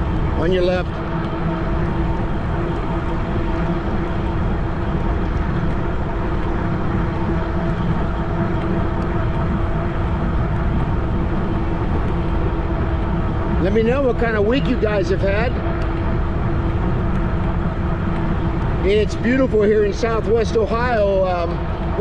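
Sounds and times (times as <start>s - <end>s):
electric bike hum: 0.0s - 22.0s
wind buffeting microphone: 0.0s - 22.0s.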